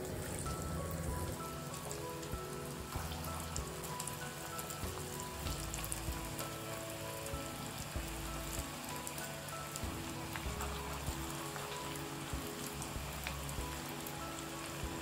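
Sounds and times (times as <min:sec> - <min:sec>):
food deep-frying in hot oil: 0:00.0 - 0:15.0
soft background music: 0:00.0 - 0:15.0.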